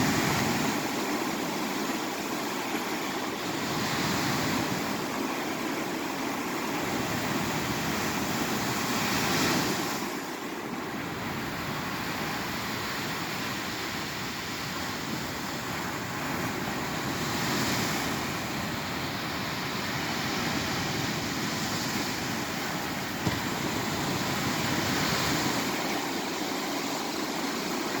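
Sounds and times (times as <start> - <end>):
surf washing onto sandy beach: 0.0 - 28.0.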